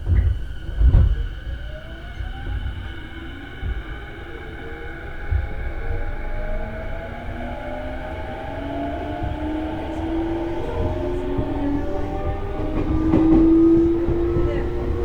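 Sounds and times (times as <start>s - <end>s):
rumble of wheels on rail: 0.0s - 15.0s
electric train motor whine: 0.1s - 15.0s.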